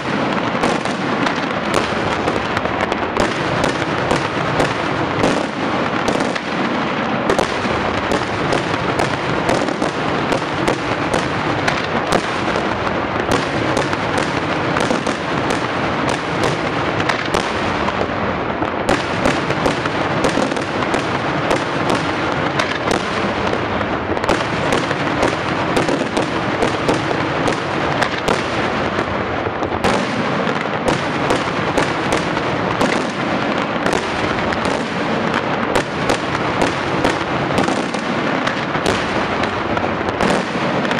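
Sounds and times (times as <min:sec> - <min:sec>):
fireworks bursting with loud bangs: 0:00.0 - 0:40.9.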